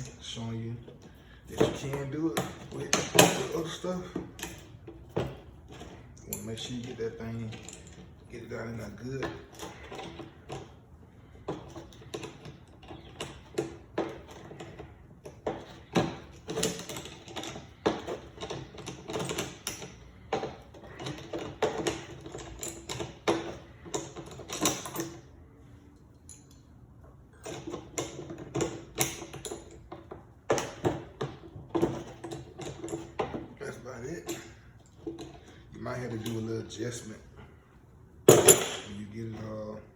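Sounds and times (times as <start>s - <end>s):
hand tools clicking and knocking: 0.0s - 25.3s, 27.3s - 36.5s, 38.3s - 39.5s.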